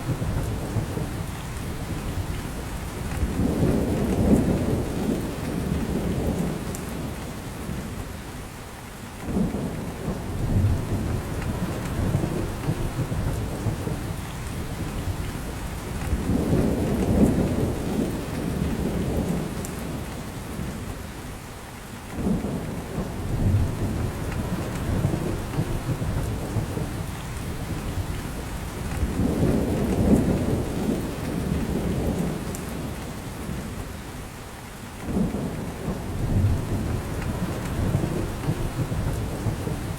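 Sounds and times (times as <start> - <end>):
rain pattering on branches: 0.0 - 8.0, 9.2 - 21.0, 21.6 - 39.9.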